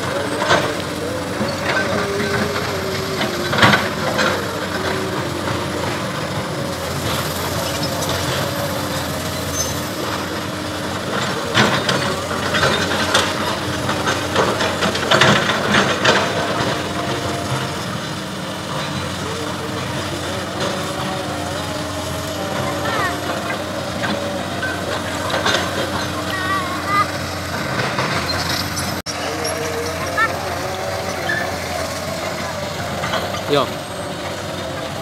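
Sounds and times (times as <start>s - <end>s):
excavator diesel engines: 0.0s - 35.0s.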